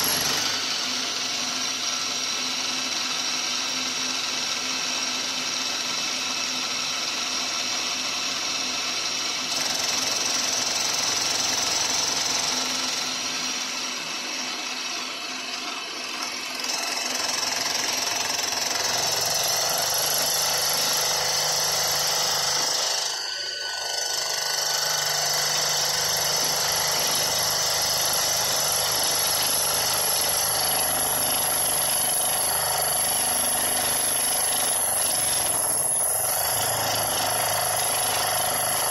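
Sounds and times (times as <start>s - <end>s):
milling machine cutting metal: 0.0s - 3.8s, 4.5s - 38.9s.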